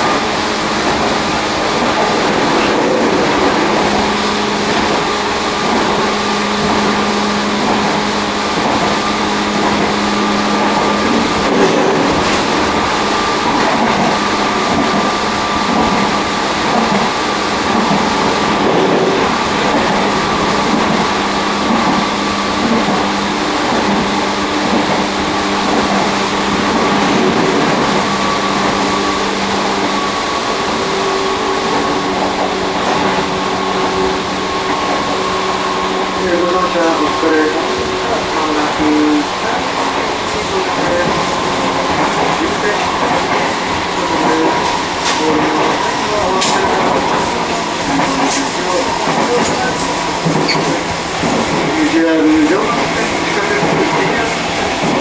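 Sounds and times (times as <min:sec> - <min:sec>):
train rolling noise: 0:00.0 - 0:55.0.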